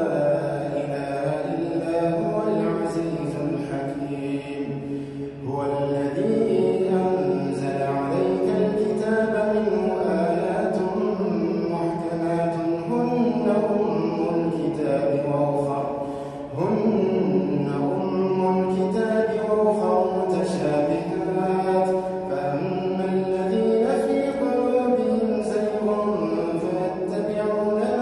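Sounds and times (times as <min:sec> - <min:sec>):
man chanting melodically: 0:00.0 - 0:28.0.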